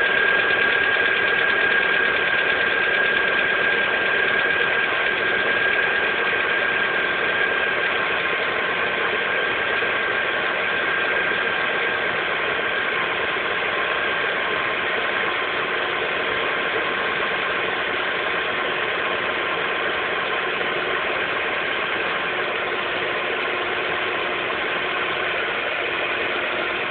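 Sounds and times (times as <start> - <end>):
car engine idling with knock: 0.0 - 26.9
high engine whine: 0.0 - 26.9.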